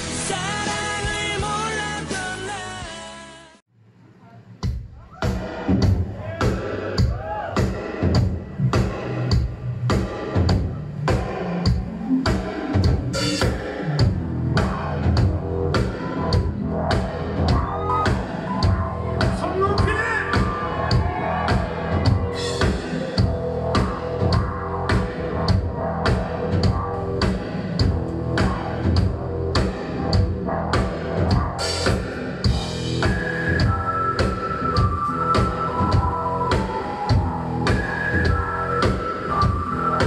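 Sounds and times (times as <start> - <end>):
drum kit beat: 0.0 - 3.1, 4.6 - 40.0
bass guitar: 0.0 - 3.4, 4.6 - 40.0.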